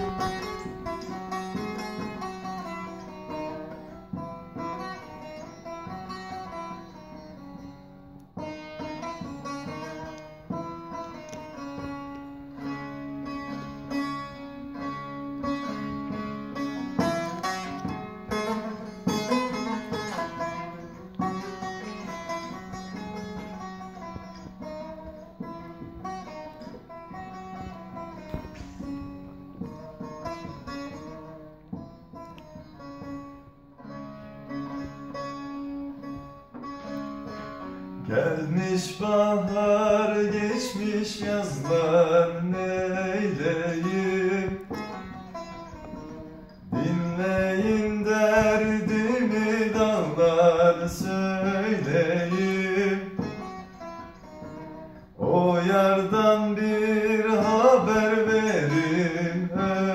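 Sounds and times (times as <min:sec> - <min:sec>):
plucked long-necked lute melody: 0:00.0 - 0:59.9.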